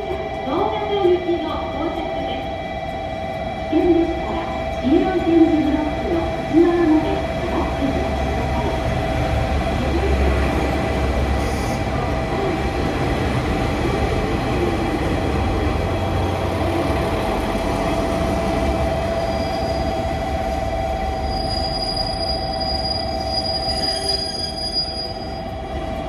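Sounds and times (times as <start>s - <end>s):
constant whine: 0.0s - 26.0s
train low rumble: 0.0s - 26.0s.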